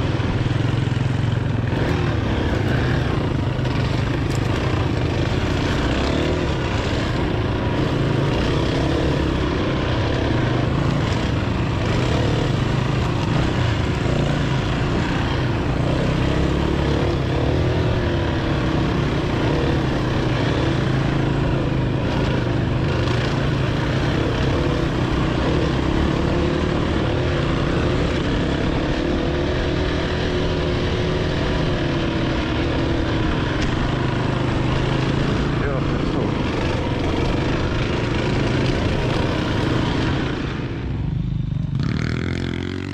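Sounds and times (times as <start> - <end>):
dirt bike engine running: 0.0 - 42.9.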